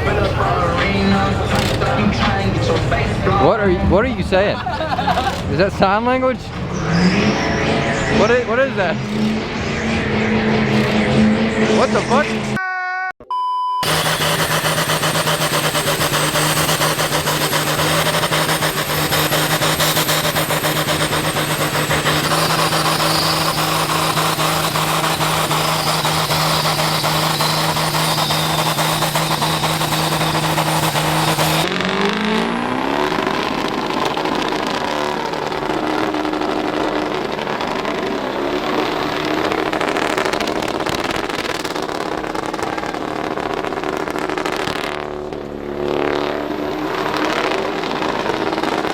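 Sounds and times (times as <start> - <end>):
truck engine revving: 0.0 - 12.6, 13.8 - 48.9.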